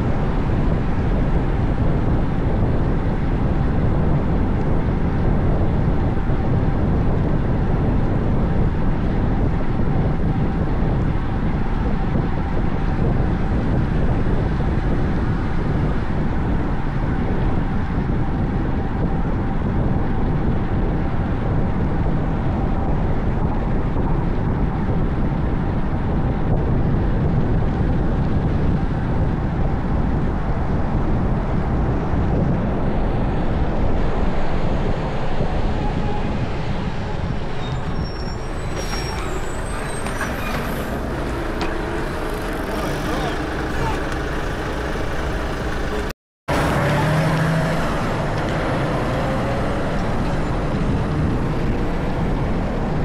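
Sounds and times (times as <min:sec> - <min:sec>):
road noise: 0:00.0 - 0:53.0
wind on microphone: 0:00.0 - 0:53.0.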